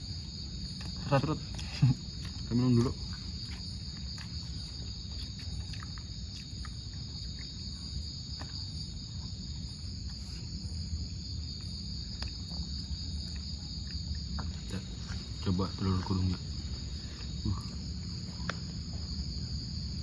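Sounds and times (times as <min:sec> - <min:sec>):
night insect chorus trilling: 0:00.0 - 0:20.0.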